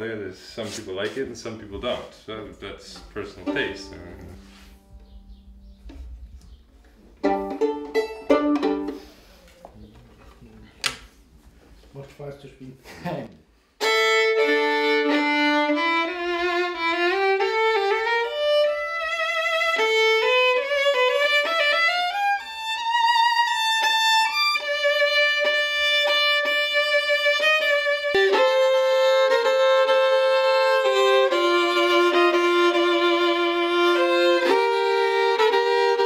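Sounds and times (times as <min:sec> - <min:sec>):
solo violin melody: 0:02.6 - 0:09.2, 0:13.8 - 0:36.0.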